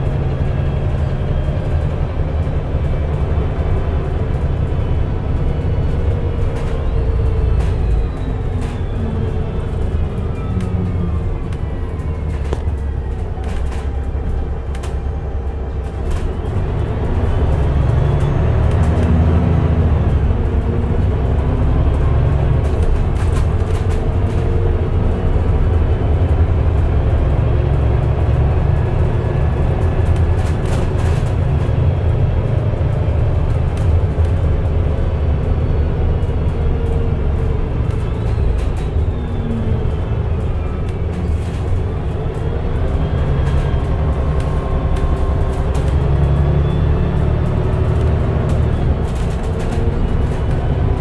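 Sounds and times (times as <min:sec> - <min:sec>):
bus engine drone: 0:00.0 - 0:51.0.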